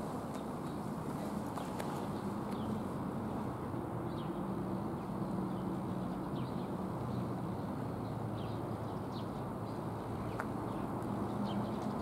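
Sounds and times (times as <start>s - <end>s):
small birds chirping: 0.3s - 2.9s, 4.1s - 4.4s, 5.2s - 12.0s.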